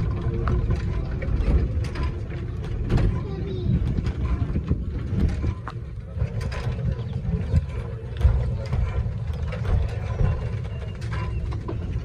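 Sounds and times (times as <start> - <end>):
locomotive wheels rumbling: 0.0 - 12.0
metallic clanks: 0.0 - 12.0.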